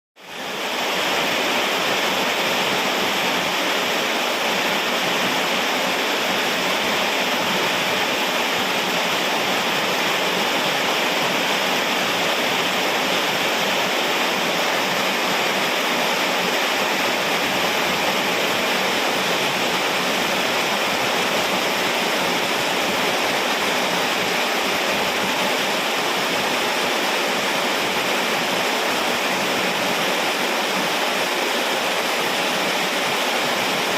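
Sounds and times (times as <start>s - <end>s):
heavy rain hiss: 0.2s - 33.9s.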